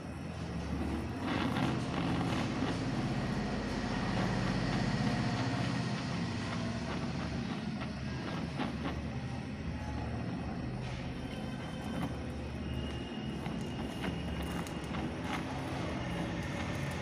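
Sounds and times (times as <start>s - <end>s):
welding torch flame hissing: 0.0s - 17.0s.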